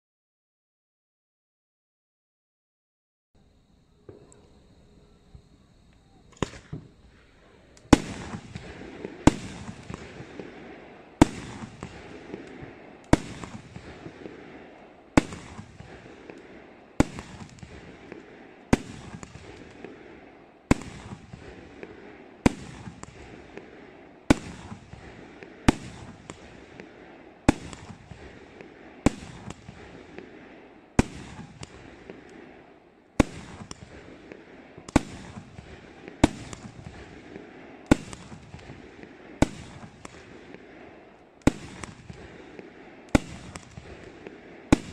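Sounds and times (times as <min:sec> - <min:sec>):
fireworks bangs: 0:04.0 - 0:44.9
small firework pops: 0:05.3 - 0:44.9.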